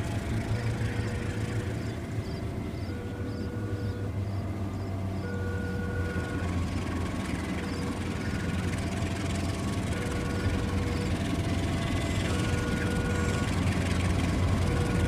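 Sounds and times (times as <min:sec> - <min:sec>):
locomotive diesel engine drone: 0:00.0 - 0:15.0.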